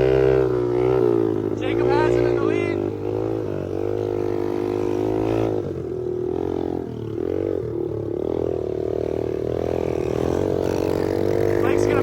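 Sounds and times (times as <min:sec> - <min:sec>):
pit bike engines racing: 0:00.0 - 0:12.0.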